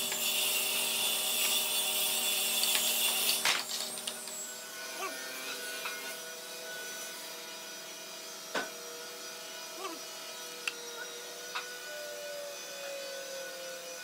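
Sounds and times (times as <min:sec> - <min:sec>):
workshop machinery hum: 0:00.0 - 0:14.0.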